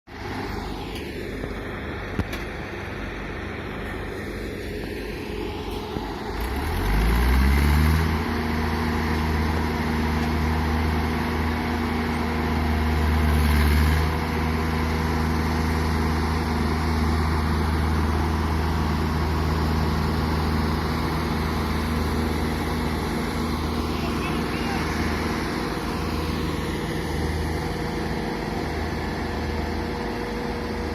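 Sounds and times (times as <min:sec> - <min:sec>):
heavy diesel engine revving: 0:03.7 - 0:30.9.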